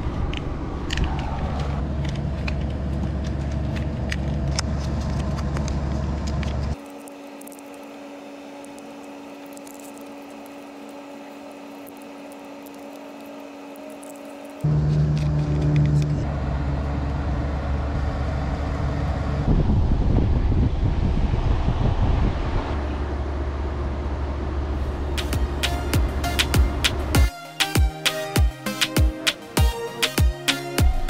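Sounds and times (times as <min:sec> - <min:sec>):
car engine running: 0:00.0 - 0:20.6, 0:22.7 - 0:27.3.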